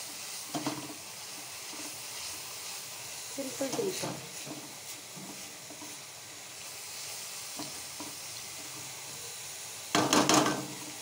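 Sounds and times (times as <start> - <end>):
sauce sizzling in a wok: 0.0 - 11.0.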